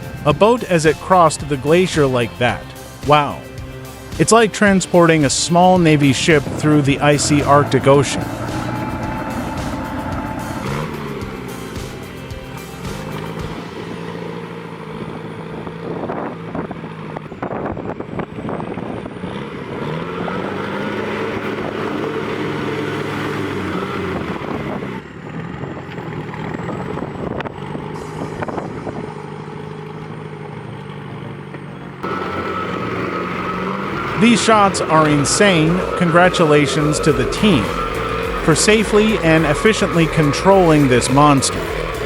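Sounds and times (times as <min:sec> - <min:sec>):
heavy vehicle engine revving: 0:00.0 - 0:42.0.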